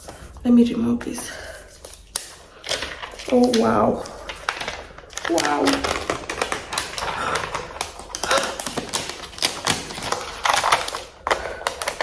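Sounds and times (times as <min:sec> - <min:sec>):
packaging wrap crackling and rustling: 0:01.8 - 0:12.0.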